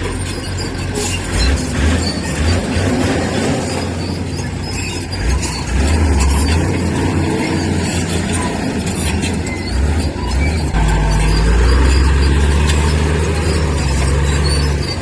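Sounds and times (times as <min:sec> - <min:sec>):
diesel machinery engine rumble: 0:00.0 - 0:15.0.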